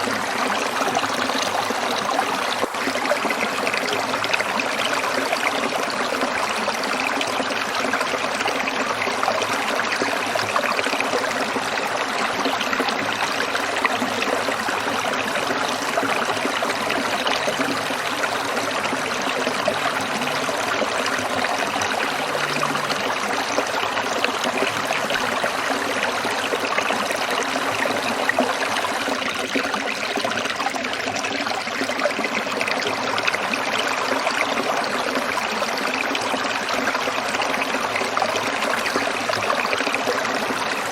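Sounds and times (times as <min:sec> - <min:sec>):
stream water splashing over stones: 0:00.0 - 0:40.9.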